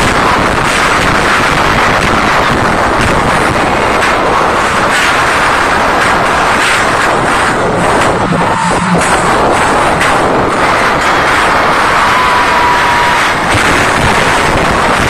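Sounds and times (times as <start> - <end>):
crowd screaming: 0.0 - 15.0.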